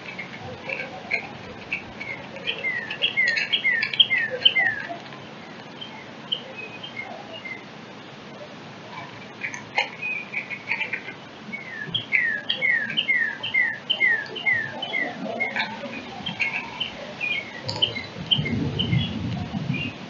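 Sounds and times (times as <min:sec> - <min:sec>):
bird chirps: 0:00.0 - 0:07.7, 0:09.0 - 0:20.0
songbirds whistling: 0:00.0 - 0:07.7, 0:09.0 - 0:20.0.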